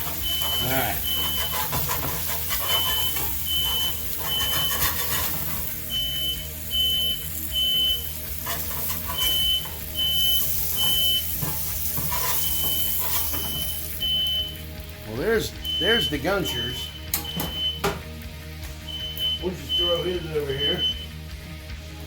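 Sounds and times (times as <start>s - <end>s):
smoke alarm beeping: 0.0s - 14.8s, 15.5s - 18.1s, 18.8s - 21.3s.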